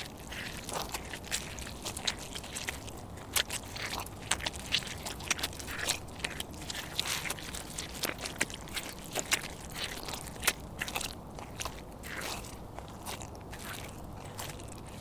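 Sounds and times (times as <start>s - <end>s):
footsteps crunching on loose surface: 0.0s - 15.0s.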